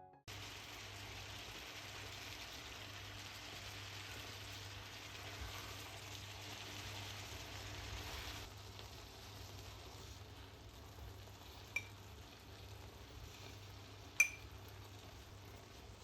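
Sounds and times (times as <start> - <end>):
food sizzling in a hot pan: 0.3 - 16.0.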